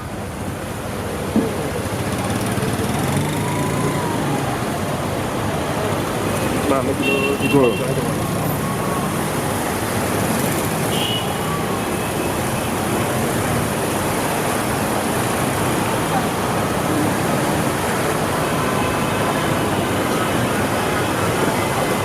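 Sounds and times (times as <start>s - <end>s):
cars driving through water: 0.0s - 22.0s.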